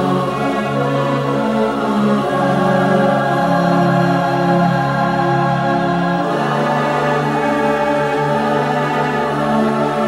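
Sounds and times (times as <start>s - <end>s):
slow sustained chords: 0.0s - 10.0s.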